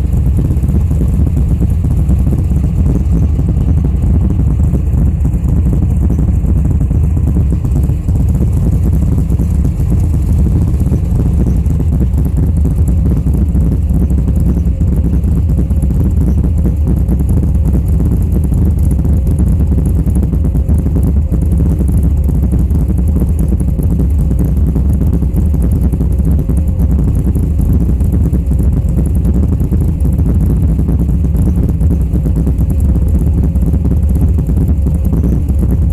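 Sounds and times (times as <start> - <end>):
engine exhaust rumble: 0.0 - 35.9.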